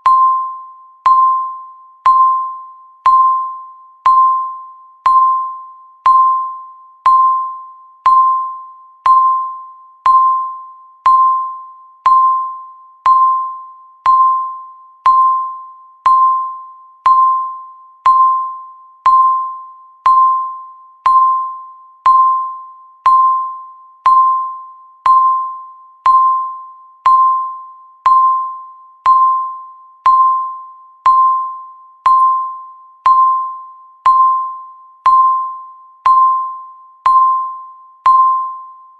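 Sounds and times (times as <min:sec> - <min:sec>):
electronic timer beeps: 0:00.0 - 0:38.9.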